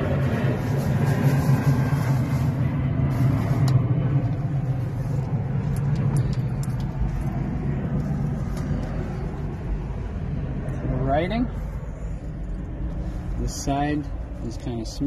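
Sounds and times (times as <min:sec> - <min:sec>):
truck cab rumble and hum: 0:00.0 - 0:15.0.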